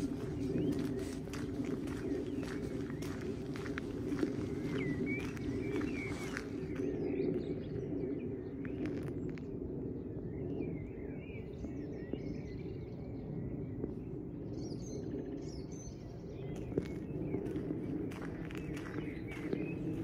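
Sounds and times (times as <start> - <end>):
low outdoor background rumble: 0.0 - 20.0
songbirds chirping: 0.0 - 20.0.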